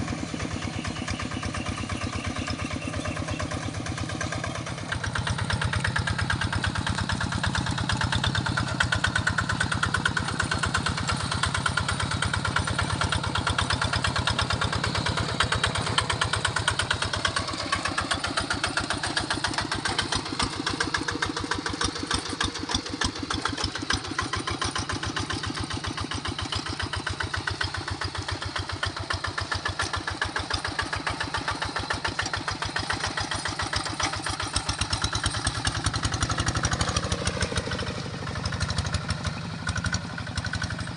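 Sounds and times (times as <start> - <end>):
tractor diesel engine chugging: 0.0 - 40.9.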